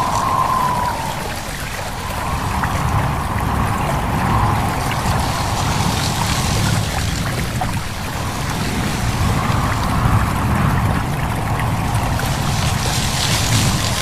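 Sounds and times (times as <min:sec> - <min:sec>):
stream babbling over stones: 0:00.0 - 0:14.0
wind through leaves: 0:00.0 - 0:14.0.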